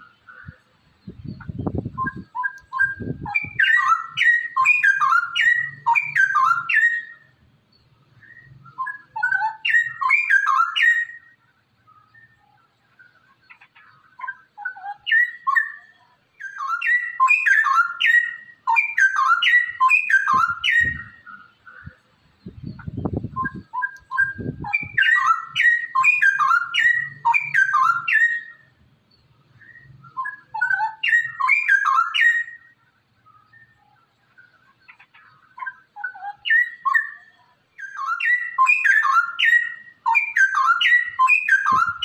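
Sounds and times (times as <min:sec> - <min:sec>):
bird singing whistled phrases: 0:01.1 - 0:07.3, 0:08.2 - 0:12.6, 0:14.1 - 0:21.5, 0:22.4 - 0:28.7, 0:29.6 - 0:35.0, 0:35.6 - 0:42.0.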